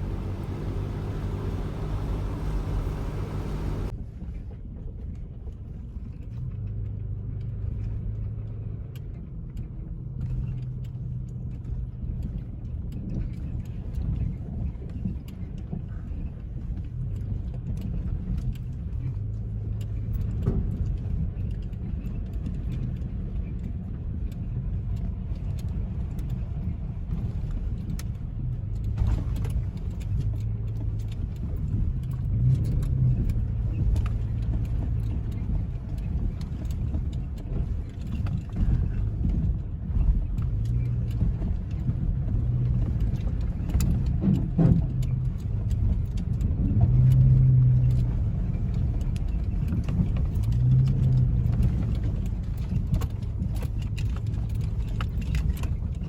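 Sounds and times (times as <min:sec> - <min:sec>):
off-road engine at low revs: 0:00.0 - 0:04.0, 0:04.9 - 0:56.0.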